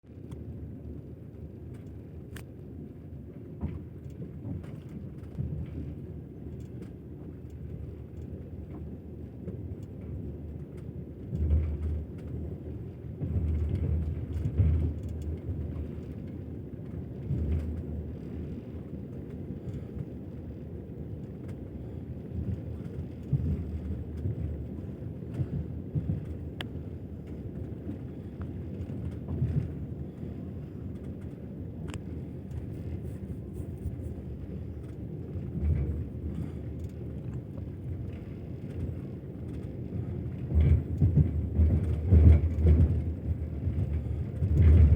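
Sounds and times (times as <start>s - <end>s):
train wheels rumbling on rails: 0.0s - 44.9s
clatter over rail joints: 3.6s - 44.9s.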